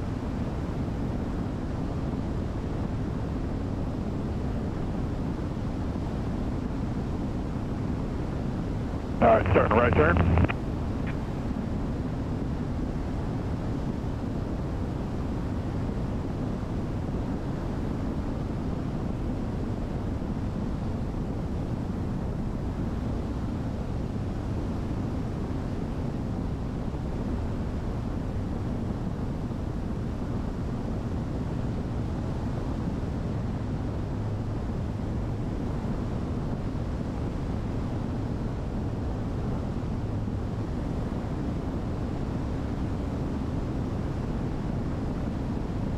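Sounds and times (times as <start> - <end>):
aircraft cabin engine drone: 0.0 - 45.9.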